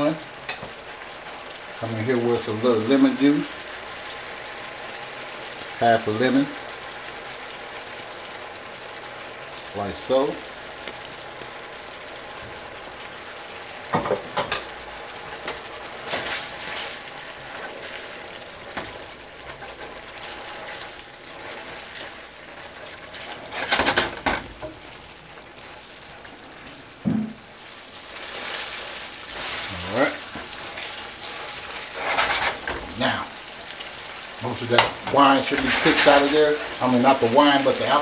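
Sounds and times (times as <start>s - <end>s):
pasta sizzling in a pan: 0.0s - 38.0s.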